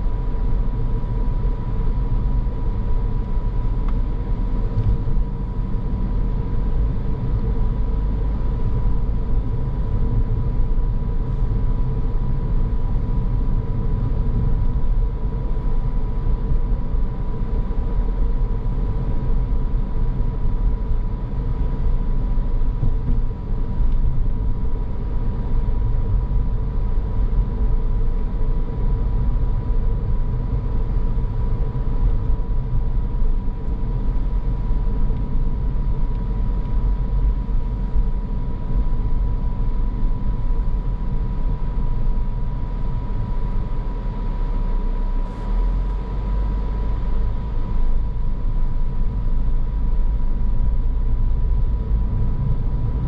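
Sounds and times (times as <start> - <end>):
car engine noise: 0.0 - 53.0
road and tyre rumble: 0.0 - 53.0
thin steady whine: 0.0 - 53.0.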